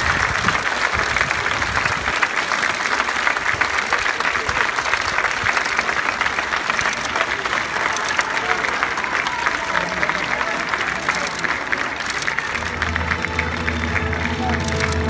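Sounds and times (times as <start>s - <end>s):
large crowd applauding: 0.0s - 15.0s.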